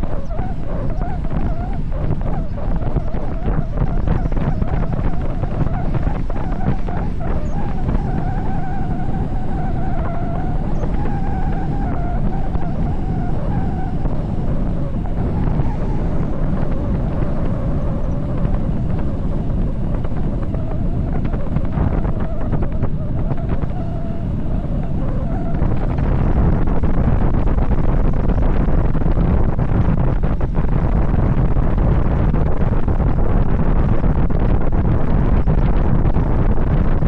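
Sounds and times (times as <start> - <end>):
faint wavering whine: 0.0 - 37.0
wind rushing over microphone: 0.0 - 37.0.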